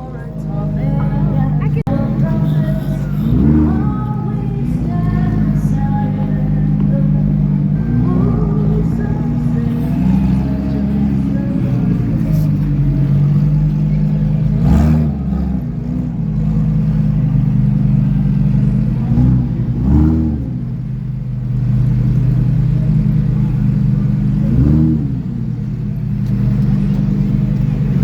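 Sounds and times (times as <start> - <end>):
engine throttle blips: 0.0 - 28.0
sports car engine idling: 0.0 - 28.0.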